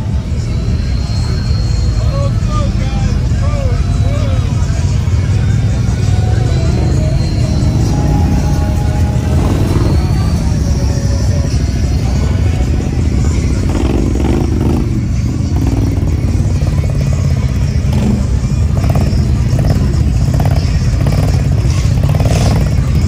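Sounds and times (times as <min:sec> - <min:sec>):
music playing: 0:00.0 - 0:23.0
vehicle engines idling: 0:00.0 - 0:23.0.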